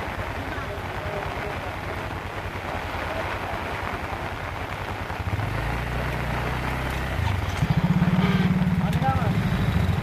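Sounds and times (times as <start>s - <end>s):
motorcycle engines running: 0.1s - 10.0s.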